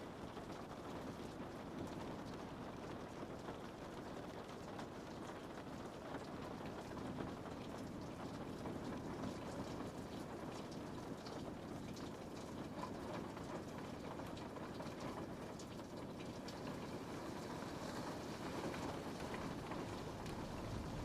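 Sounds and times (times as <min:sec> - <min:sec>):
rain pattering on a window: 0:00.0 - 0:21.0.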